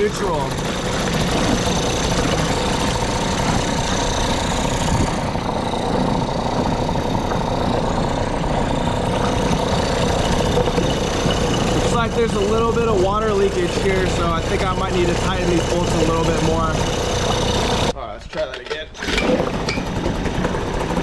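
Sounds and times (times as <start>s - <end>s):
water churning in a bucket: 0.0s - 17.9s
outboard motor running: 0.0s - 18.0s, 19.0s - 21.0s.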